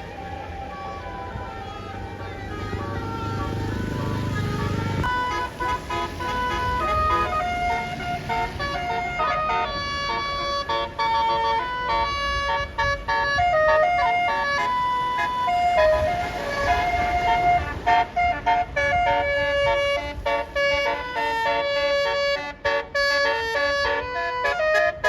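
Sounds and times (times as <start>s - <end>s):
bus engine rumble: 0.0s - 25.0s
musical bus horn melody: 0.0s - 25.0s.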